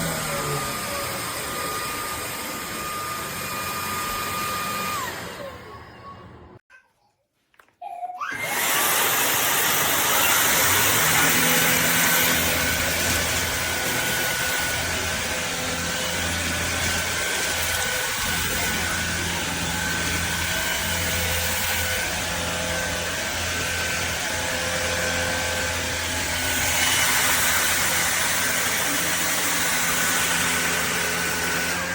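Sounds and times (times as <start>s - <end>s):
stick vacuum motor running: 0.0s - 6.4s, 8.3s - 31.9s.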